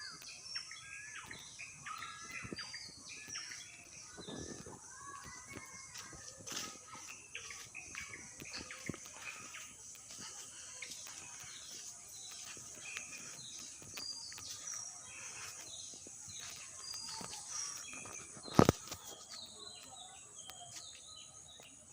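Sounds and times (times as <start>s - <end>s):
birds chirping and calling: 0.0s - 21.9s.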